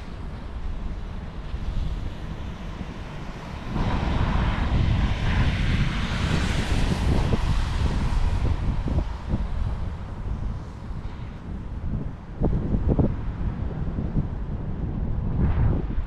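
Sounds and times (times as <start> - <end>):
low city background: 0.0 - 16.0.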